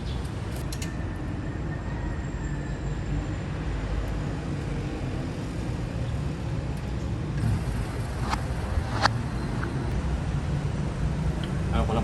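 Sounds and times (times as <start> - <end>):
low rumble of vehicle noise: 0.0 - 12.0.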